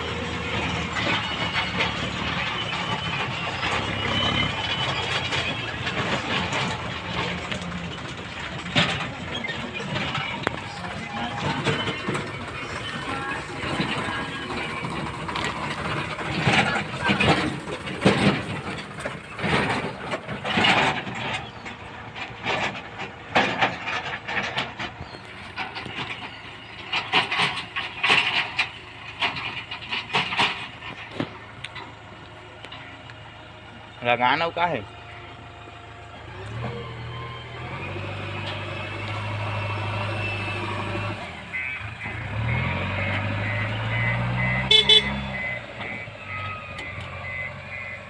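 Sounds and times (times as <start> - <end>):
clattering scraping of digging: 0.0 - 47.5
backhoe engine running: 0.0 - 48.0.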